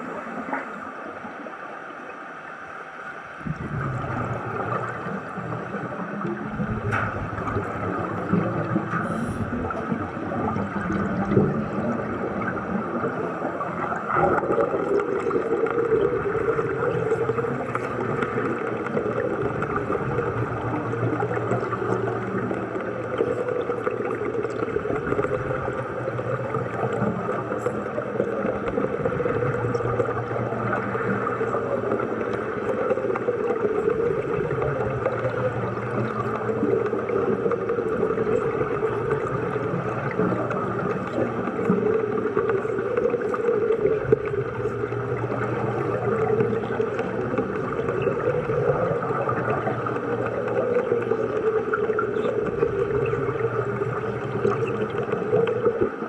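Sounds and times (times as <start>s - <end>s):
underwater bubbling and rushing: 0.0s - 56.0s.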